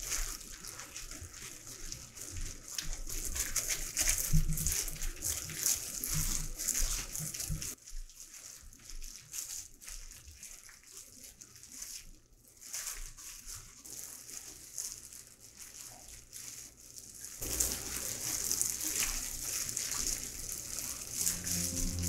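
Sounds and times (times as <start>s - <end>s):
wet cabbage leaves squishing: 0.0s - 22.0s.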